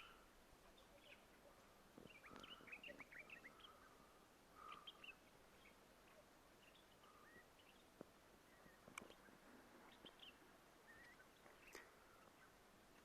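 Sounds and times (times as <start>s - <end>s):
faint songbirds chirping: 0.0s - 13.0s.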